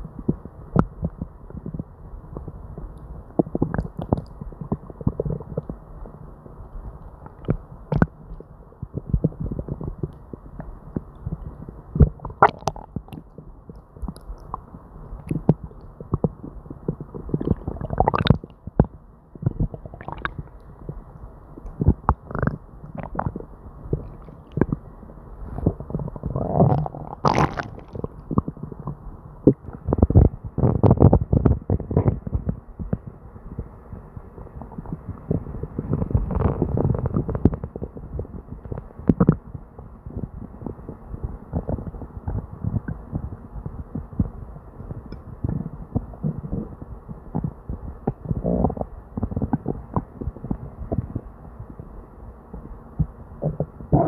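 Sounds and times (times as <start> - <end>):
stomach gurgling: 0.0 - 54.0.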